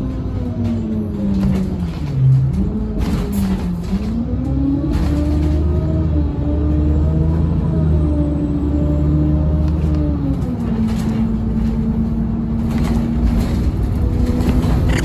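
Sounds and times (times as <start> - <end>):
bus engine from inside cabin: 0.0 - 15.0.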